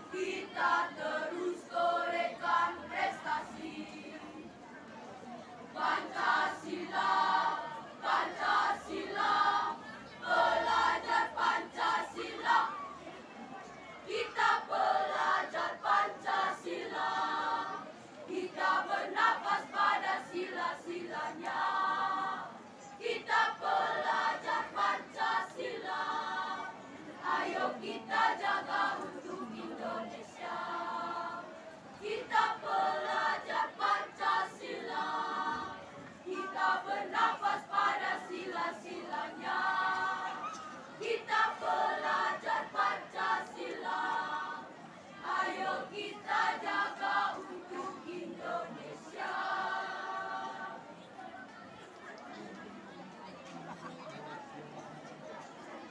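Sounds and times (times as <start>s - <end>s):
choir singing rhythmic phrases: 0.0s - 5.0s, 5.6s - 13.2s, 14.0s - 55.9s.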